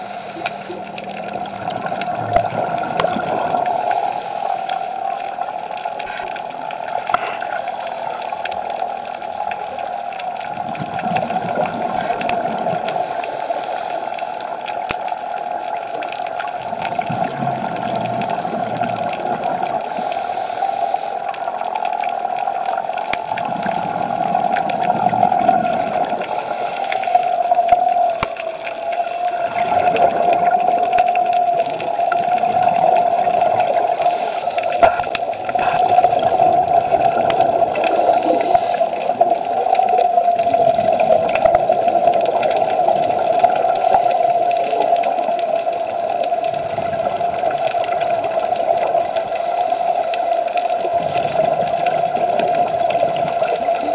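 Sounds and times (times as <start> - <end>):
bubbles gurgling underwater: 0.0 - 13.6, 14.3 - 20.5, 21.2 - 53.9.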